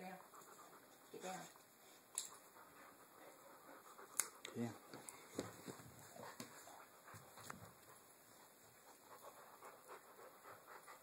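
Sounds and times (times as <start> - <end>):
dogs panting: 0.0 - 11.0.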